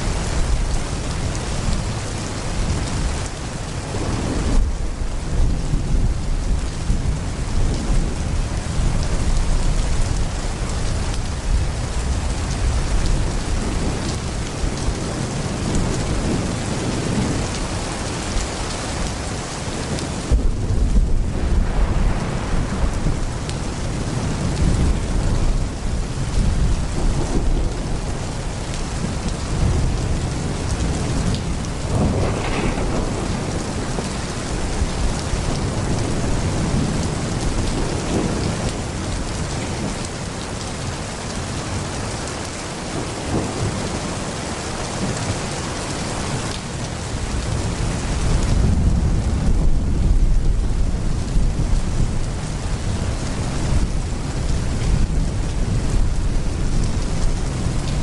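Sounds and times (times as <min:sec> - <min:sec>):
thunder rumbling: 0:00.0 - 0:41.9, 0:42.8 - 0:58.0
heavy rain pouring: 0:00.0 - 0:58.0.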